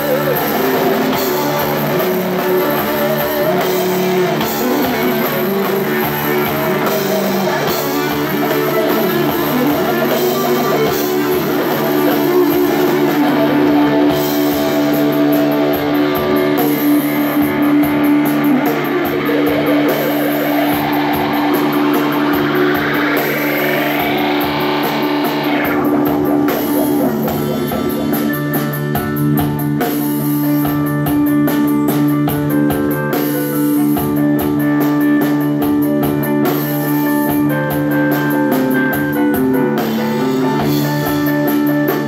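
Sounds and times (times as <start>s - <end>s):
bass guitar: 0.0s - 42.0s
distorted electric guitars: 0.0s - 42.0s
drum kit: 0.0s - 42.0s.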